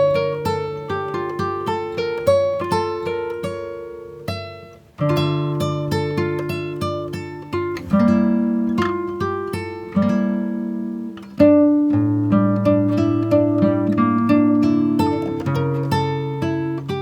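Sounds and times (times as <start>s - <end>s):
plucked acoustic guitar melody: 0.0s - 17.0s.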